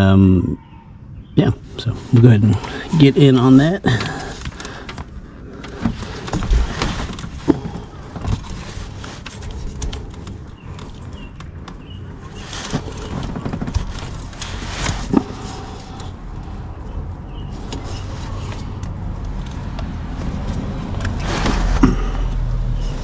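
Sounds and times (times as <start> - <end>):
hands rustling against engine parts: 1.6 - 23.0.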